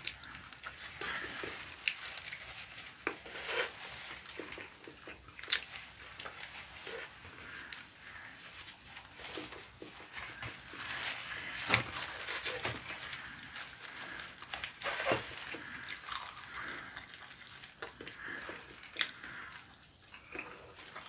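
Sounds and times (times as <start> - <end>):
chewing and eating: 0.0 - 21.0
plastic gloves crinkling: 0.0 - 21.0.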